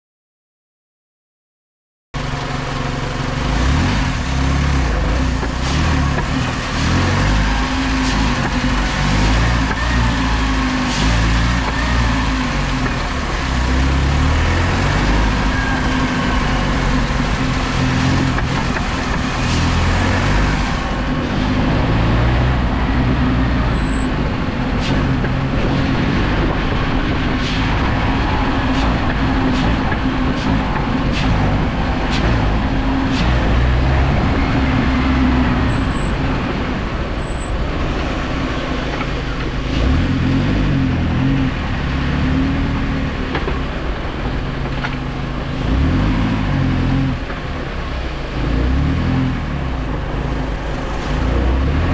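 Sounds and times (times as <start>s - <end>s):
car engine revving: 2.2s - 51.9s.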